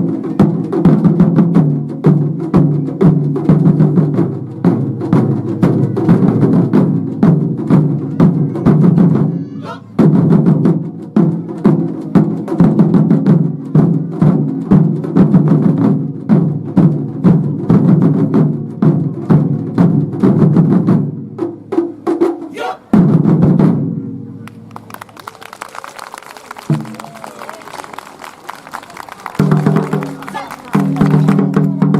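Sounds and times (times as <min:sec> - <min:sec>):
drums beaten in fast rhythm: 0:00.0 - 0:24.1, 0:26.6 - 0:27.4, 0:29.2 - 0:31.9.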